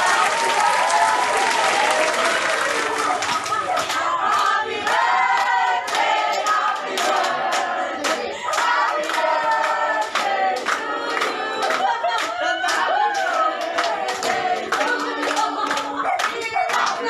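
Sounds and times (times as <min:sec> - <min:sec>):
people clapping in time: 0:00.0 - 0:17.0
group of people singing: 0:02.8 - 0:17.0.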